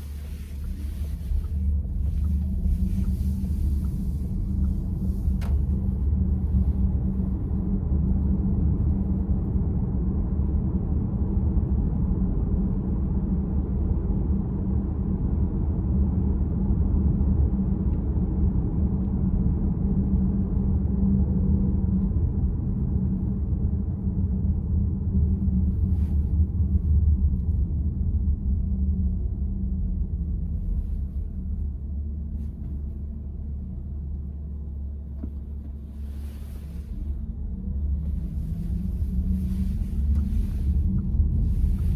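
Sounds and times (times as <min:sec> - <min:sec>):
road and tyre rumble in car: 0:00.0 - 0:41.9.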